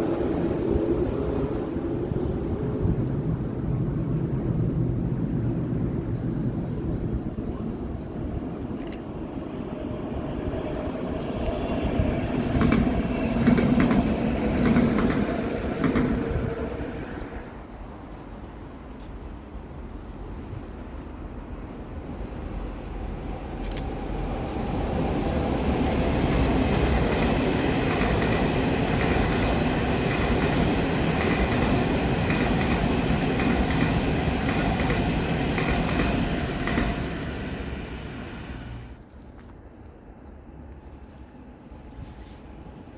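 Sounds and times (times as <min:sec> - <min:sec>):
passenger train rumbling past: 0:00.0 - 0:39.2.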